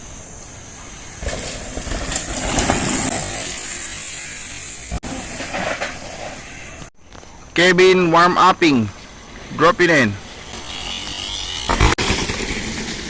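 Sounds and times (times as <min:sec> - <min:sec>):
bike rattling: 0:00.0 - 0:06.9, 0:09.0 - 0:13.0
bike tyres on loose dirt: 0:00.0 - 0:13.0.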